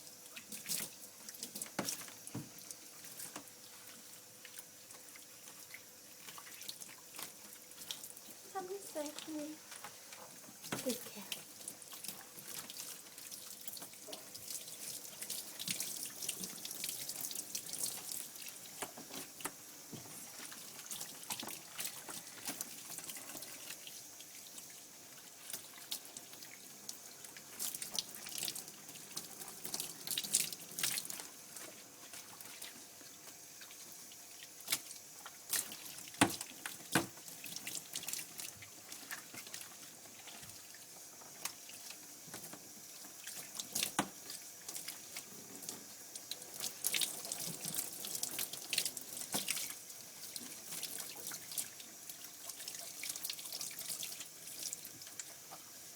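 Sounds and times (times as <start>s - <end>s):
shower water splashing: 0.0s - 55.8s.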